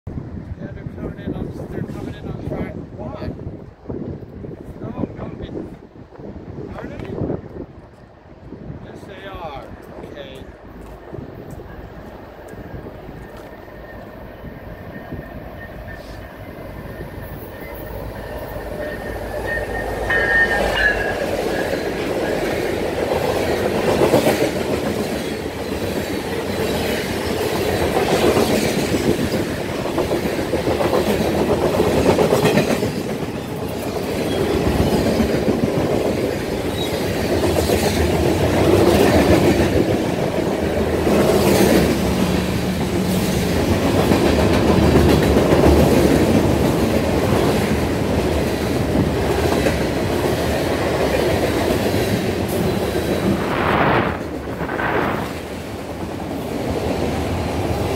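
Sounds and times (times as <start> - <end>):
freight train rolling past: 0.1 - 57.9.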